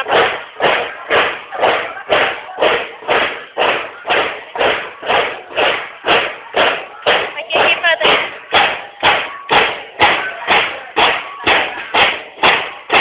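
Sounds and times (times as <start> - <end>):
marching drums with snare rattle: 0.0 - 13.0.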